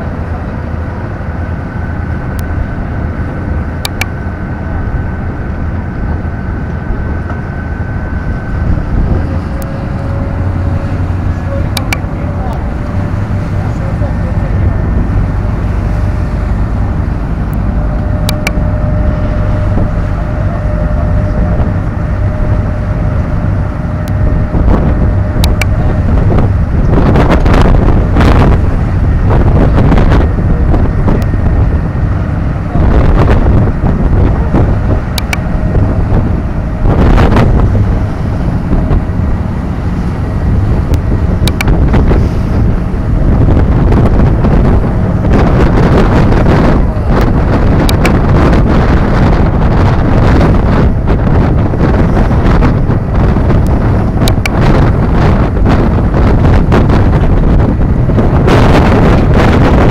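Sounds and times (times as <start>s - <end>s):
churning wake: 0.0s - 59.9s
ship engine rumble: 0.0s - 59.9s
wind buffeting microphone: 0.0s - 59.9s.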